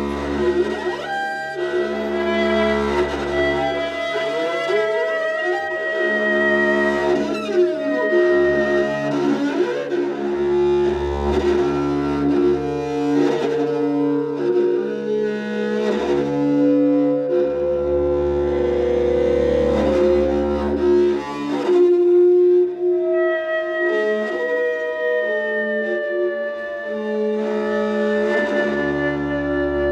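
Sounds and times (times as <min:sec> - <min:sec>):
sustained string tones: 0:00.0 - 0:29.9.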